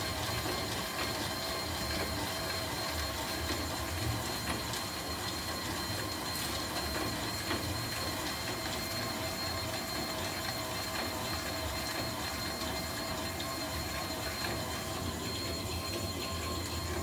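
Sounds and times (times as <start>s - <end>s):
popcorn machine humming: 0.0s - 17.0s.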